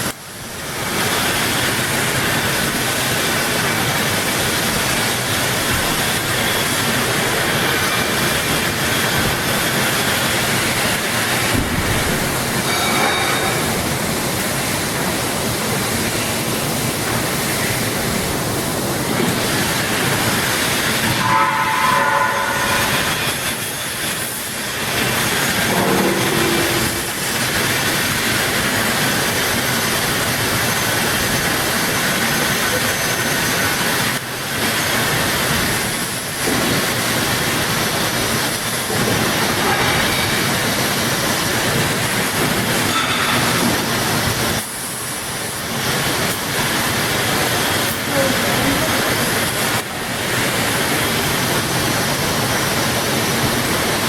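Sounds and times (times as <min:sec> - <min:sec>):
industrial machine din: 0:00.9 - 0:52.2.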